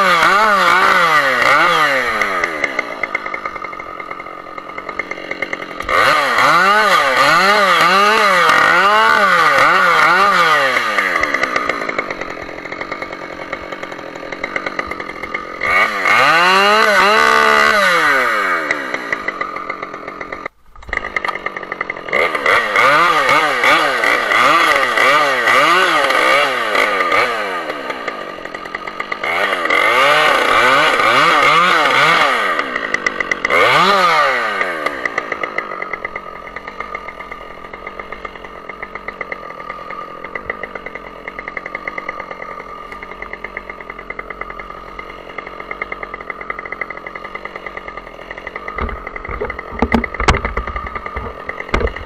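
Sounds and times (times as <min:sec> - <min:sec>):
chainsaw revving and idling: 0:00.0 - 0:52.0.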